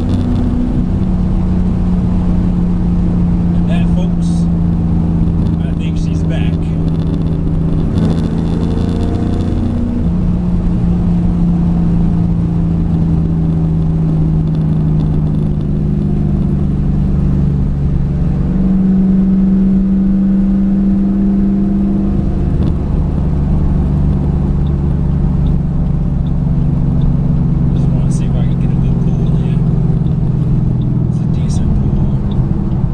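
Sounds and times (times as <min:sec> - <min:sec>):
car engine while driving: 0:00.0 - 0:32.9.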